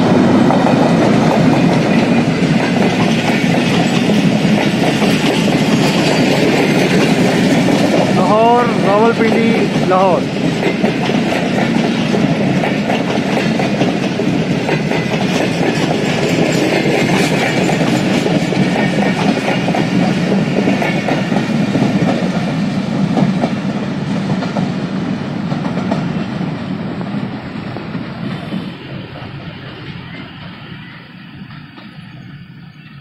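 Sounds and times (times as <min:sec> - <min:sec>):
train wheels clattering: 0:00.0 - 0:32.9.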